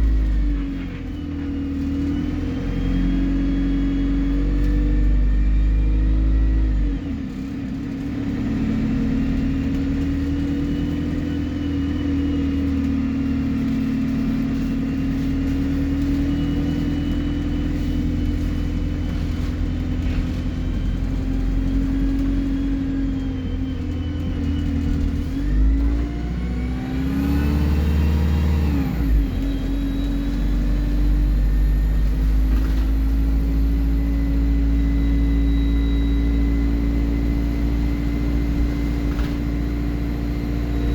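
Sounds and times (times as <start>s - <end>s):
bus engine running: 0.0s - 40.9s.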